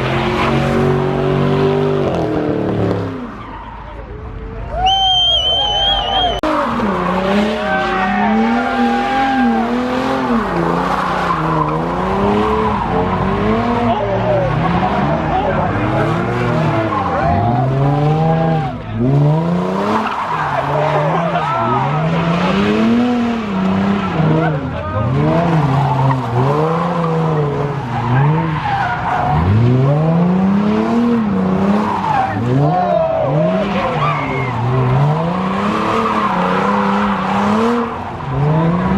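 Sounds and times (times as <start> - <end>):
car engine at high revs: 0.0 - 4.4, 5.6 - 38.9
tyres squealing and skidding: 0.0 - 38.9.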